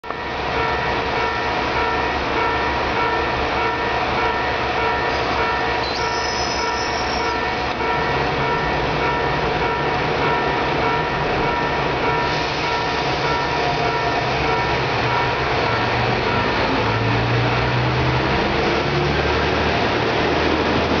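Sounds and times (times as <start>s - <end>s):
diesel railcar engine droning: 0.0s - 21.0s.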